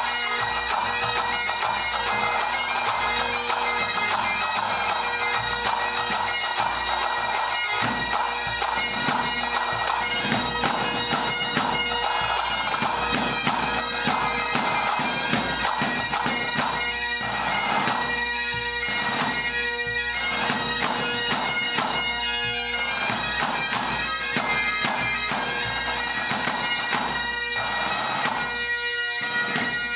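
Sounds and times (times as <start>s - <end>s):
side drums beating: 0.0s - 22.2s, 22.8s - 28.5s, 29.4s - 29.9s
bagpipes playing melody: 0.0s - 29.9s.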